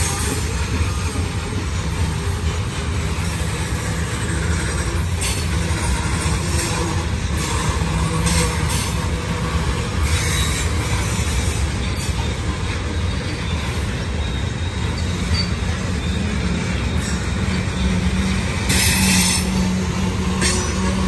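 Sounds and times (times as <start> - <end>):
high wheel squeal: 0.0 - 21.0
train wheels rumbling on rails: 0.0 - 21.0.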